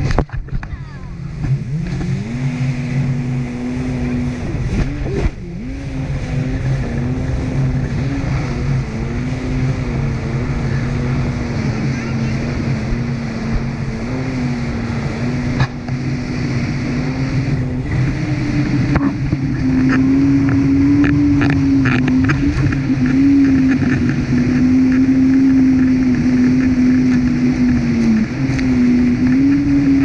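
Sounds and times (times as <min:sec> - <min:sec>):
water rushing along hull: 0:00.0 - 0:30.0
watercraft engine running: 0:00.0 - 0:30.0.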